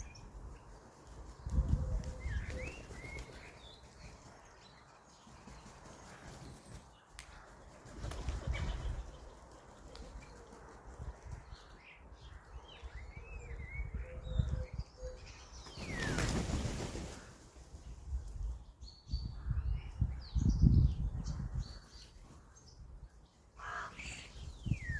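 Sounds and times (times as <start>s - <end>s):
small birds chirping: 0.0s - 10.6s, 11.2s - 24.9s.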